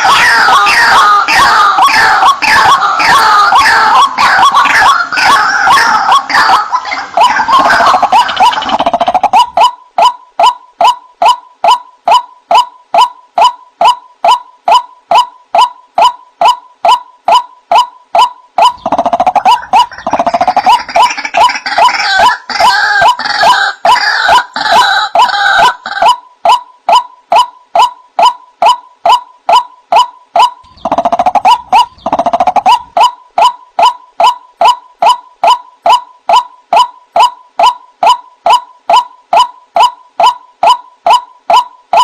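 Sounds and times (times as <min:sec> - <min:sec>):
waterhen calling wak-wak: 0:00.0 - 0:42.0.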